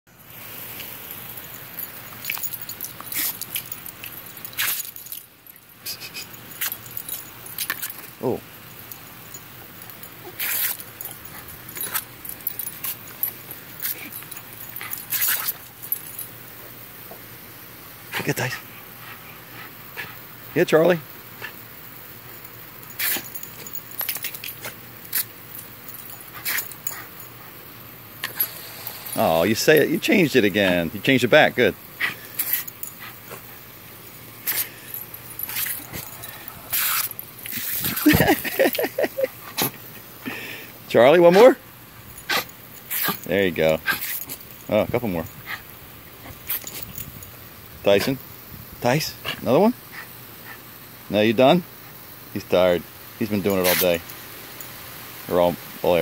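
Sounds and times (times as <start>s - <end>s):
hose spray splashing: 0.2s - 56.0s.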